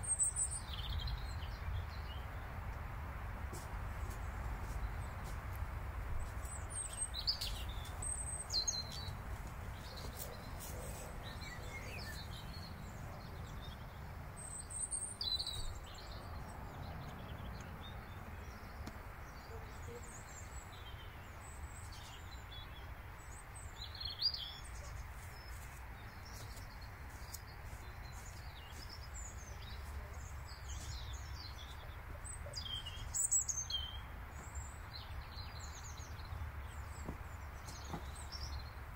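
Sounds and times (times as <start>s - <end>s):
small birds chirping: 0.0s - 2.9s, 3.5s - 38.9s.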